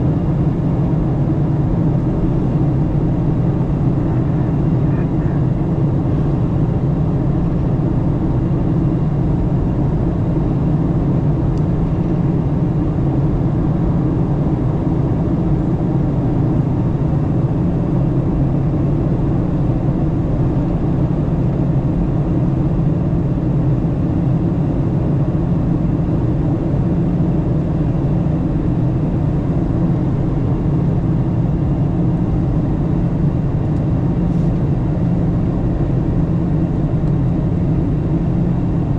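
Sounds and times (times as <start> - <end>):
airflow over fuselage: 0.0 - 38.9
airliner cabin engine drone: 0.0 - 38.9.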